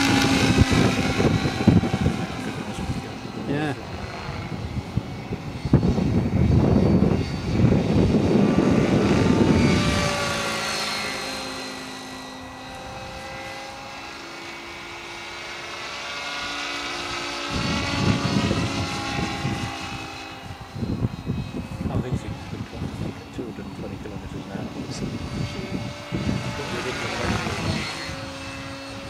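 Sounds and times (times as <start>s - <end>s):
model helicopter motor whining: 0.0s - 29.0s.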